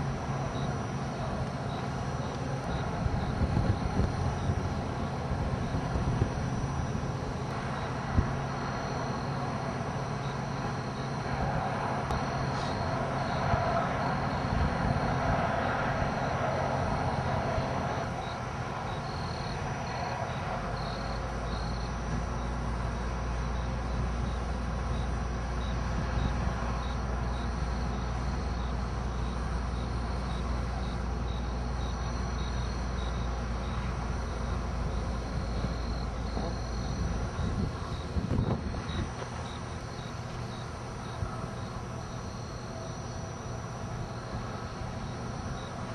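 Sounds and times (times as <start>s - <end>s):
vehicle engine and road noise: 0.0s - 45.9s.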